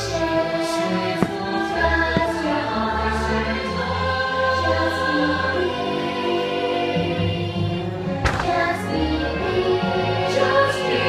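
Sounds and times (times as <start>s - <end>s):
choir music over loudspeakers: 0.0s - 11.0s.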